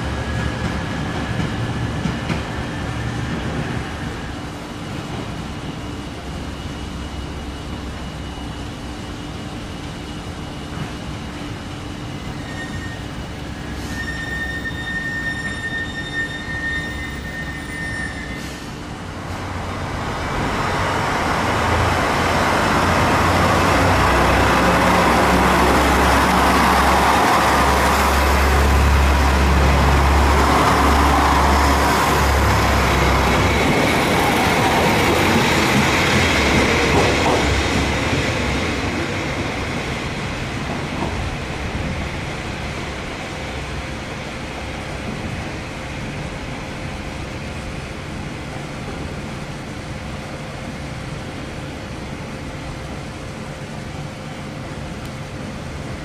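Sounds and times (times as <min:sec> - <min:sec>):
diesel railcar engine: 0:00.0 - 0:56.0
train high whine: 0:00.0 - 0:56.0.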